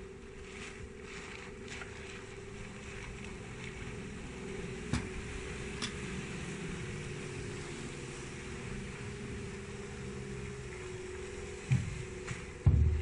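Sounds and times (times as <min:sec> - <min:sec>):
electric outboard motor humming: 0:00.0 - 0:13.0
water rushing: 0:00.0 - 0:13.0
wind: 0:00.0 - 0:13.0.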